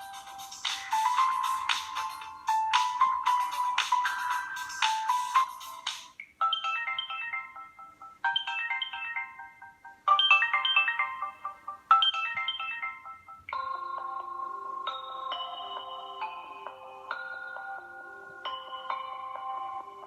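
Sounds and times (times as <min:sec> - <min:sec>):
phone ringtone: 0:00.0 - 0:20.0
ringtone with held notes: 0:00.0 - 0:20.0.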